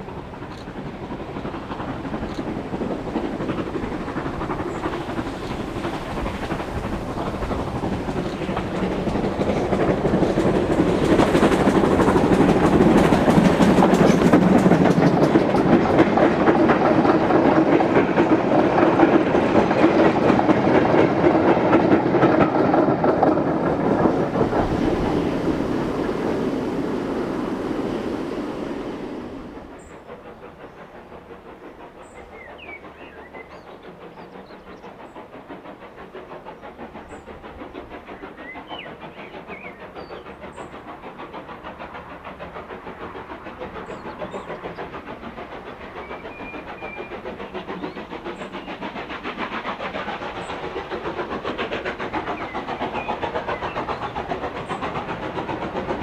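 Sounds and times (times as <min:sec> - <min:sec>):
steam locomotive passing: 0:00.0 - 0:56.0.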